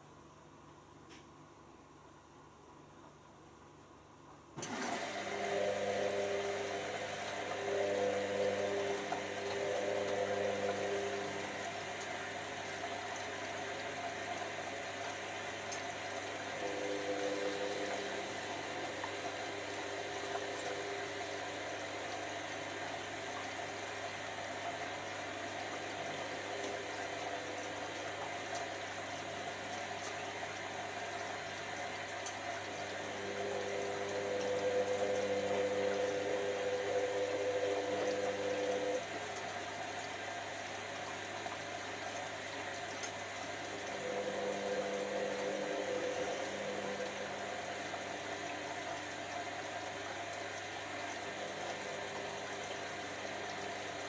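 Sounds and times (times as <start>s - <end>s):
washing machine motor hum: 4.5s - 54.0s
water noise: 4.6s - 54.0s.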